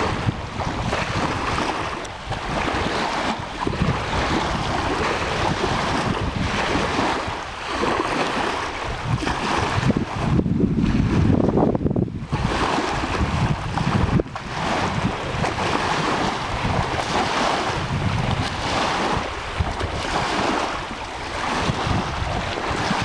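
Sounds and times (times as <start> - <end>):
waves lapping on shore: 0.0 - 23.0
wind buffeting microphone: 0.0 - 23.0.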